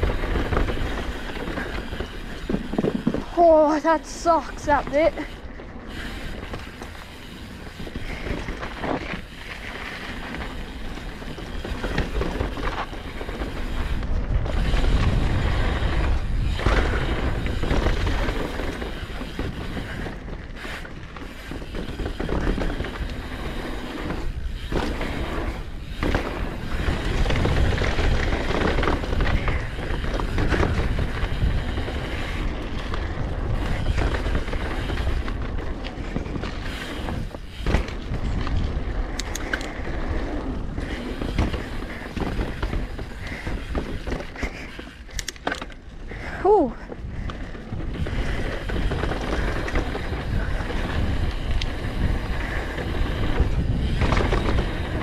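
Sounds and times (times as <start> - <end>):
bike tyres rolling on dirt trail: 0.0 - 55.0
wind rumbling on microphone: 0.0 - 55.0.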